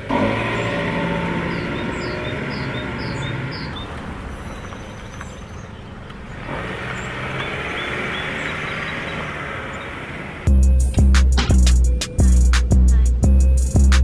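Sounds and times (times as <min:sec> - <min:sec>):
car driving slowly past: 0:00.0 - 0:11.8.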